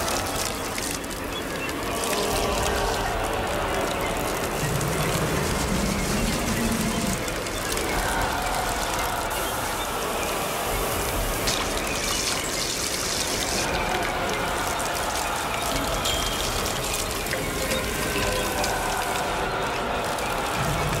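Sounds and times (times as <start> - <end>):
liquid gushing and trickling: 0.0 - 21.0.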